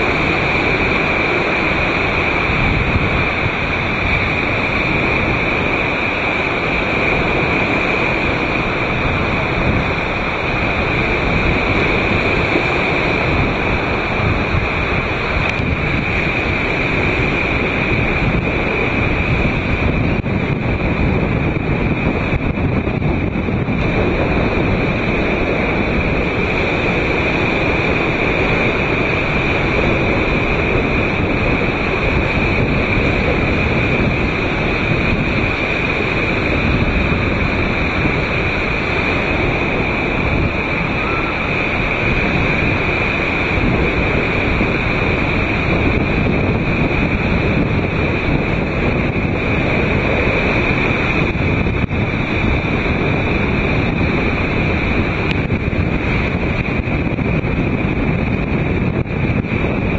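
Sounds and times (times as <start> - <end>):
strong wind buffeting microphone: 0.0 - 59.9
surf breaking on beach: 0.0 - 59.9.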